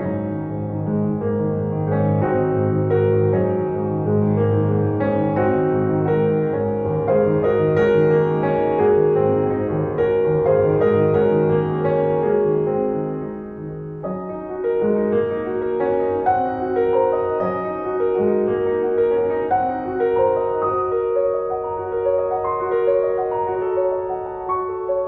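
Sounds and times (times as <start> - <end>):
gentle piano piece: 0.0 - 25.0.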